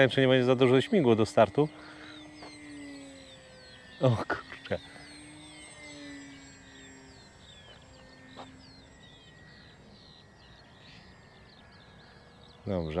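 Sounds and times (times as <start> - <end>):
birds chirping: 0.0 - 13.0
model plane motor drone: 0.0 - 13.0.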